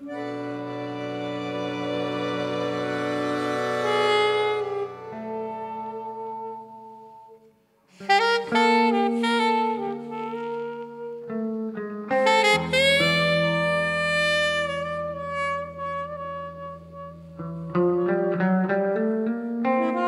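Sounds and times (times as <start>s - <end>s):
saxophone long notes: 0.0s - 18.4s, 19.6s - 20.0s
slow jazz ensemble music: 0.0s - 20.0s.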